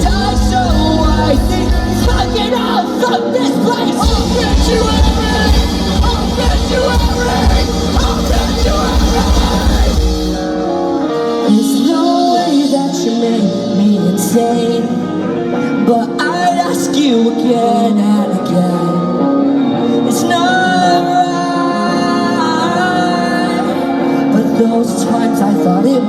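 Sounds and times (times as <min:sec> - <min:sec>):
live rock band playing: 0:00.0 - 0:26.0
person singing: 0:00.0 - 0:26.0.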